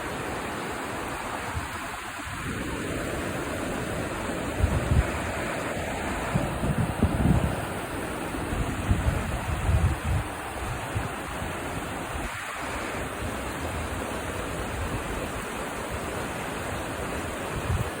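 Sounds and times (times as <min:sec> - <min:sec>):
rapids rushing over rocks: 0:00.0 - 0:18.0
wind gusts hitting microphone: 0:01.4 - 0:15.4, 0:17.5 - 0:18.0.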